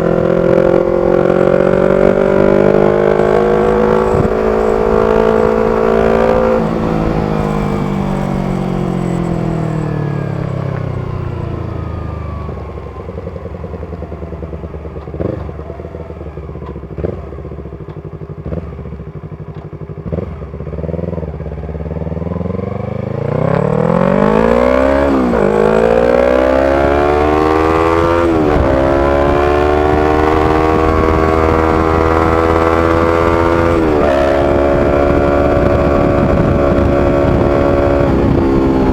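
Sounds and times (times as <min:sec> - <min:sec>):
gear changes: 0:00.0 - 0:15.7, 0:22.6 - 0:38.9
motorcycle engine revving: 0:00.0 - 0:38.9.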